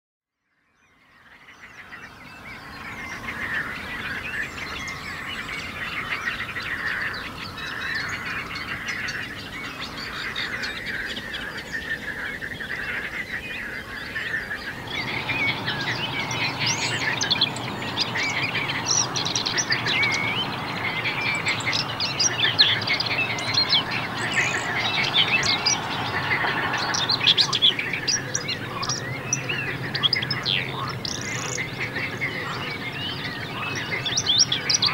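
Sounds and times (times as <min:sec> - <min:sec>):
many birds singing and calling: 0:00.5 - 0:34.9.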